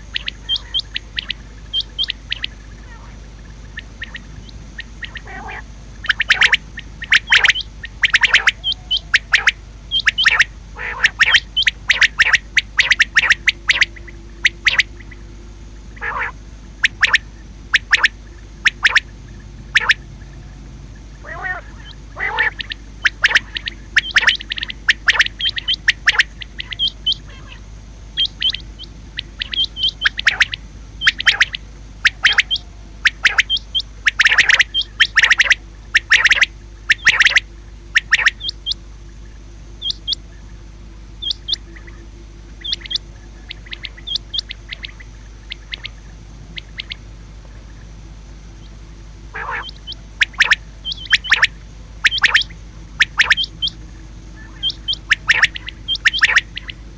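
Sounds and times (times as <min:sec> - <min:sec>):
quail calling: 0:00.0 - 0:15.3, 0:15.9 - 0:40.6, 0:41.2 - 0:48.0, 0:48.6 - 0:56.9
steady low hum: 0:00.0 - 0:56.9.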